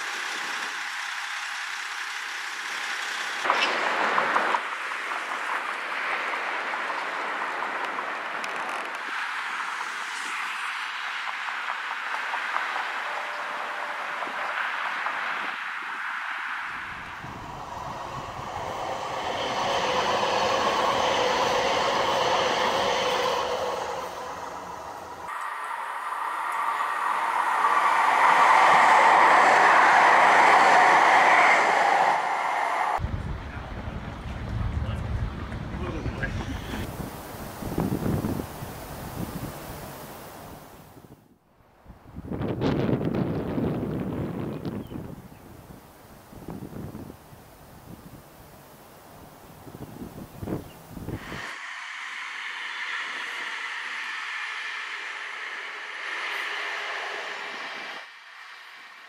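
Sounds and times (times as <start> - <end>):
train wheels on rails: 0.0 - 41.0, 45.6 - 59.0
passing cars and tyres hiss: 0.0 - 59.0.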